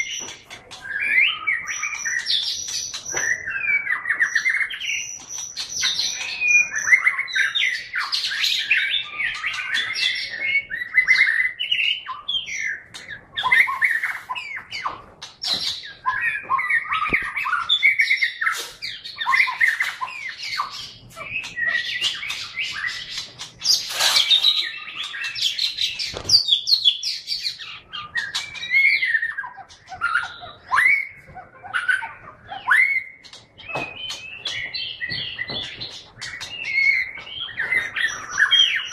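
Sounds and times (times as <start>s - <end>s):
bird chattering: 0.0s - 38.9s
bird singing whistled song: 0.0s - 38.9s.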